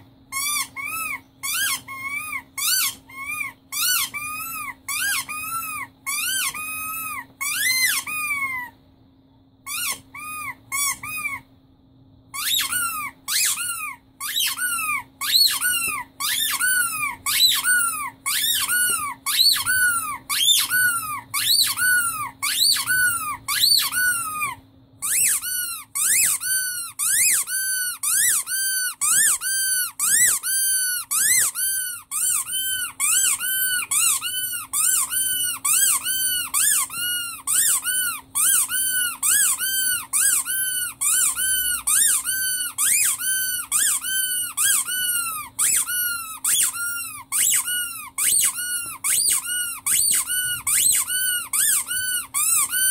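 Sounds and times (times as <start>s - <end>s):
rubber squeaky toy squeaking: 0.0s - 8.8s, 9.6s - 11.5s, 12.3s - 52.9s.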